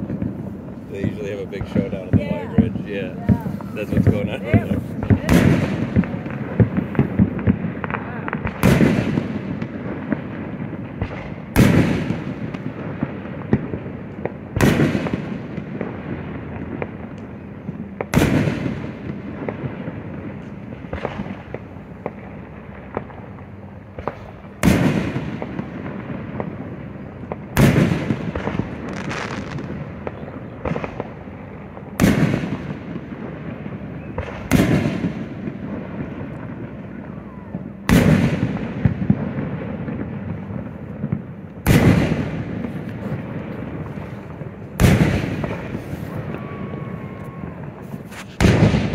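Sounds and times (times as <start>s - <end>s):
distant firework booms: 0.0s - 48.9s
firework crackle: 0.0s - 48.9s.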